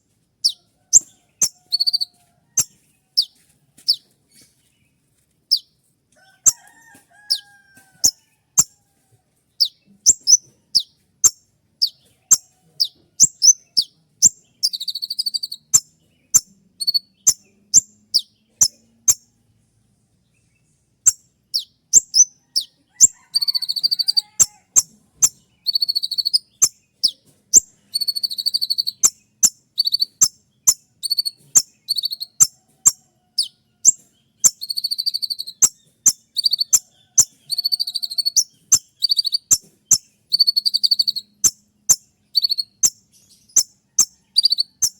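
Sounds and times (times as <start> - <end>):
buzzy bird trills: 0.4 - 4.5, 6.4 - 8.8, 9.6 - 19.3, 21.1 - 44.9.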